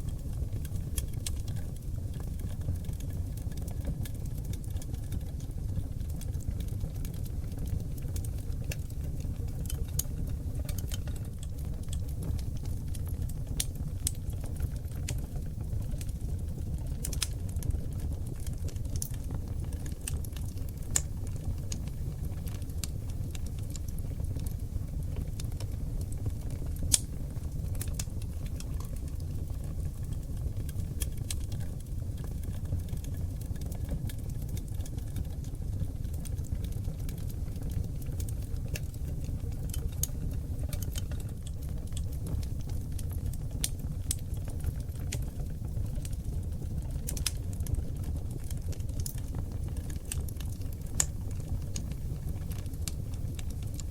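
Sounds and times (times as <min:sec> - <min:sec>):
fire crackling and popping: 0:00.0 - 0:53.9
wood fire rumbling: 0:00.0 - 0:53.9.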